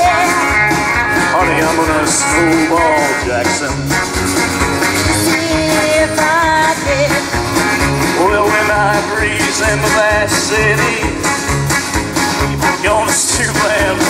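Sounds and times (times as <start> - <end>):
live country band playing: 0.0 - 14.0.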